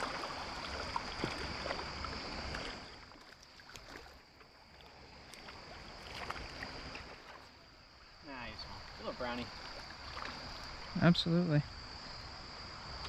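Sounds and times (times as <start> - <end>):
creek water splashing: 0.0 - 13.0.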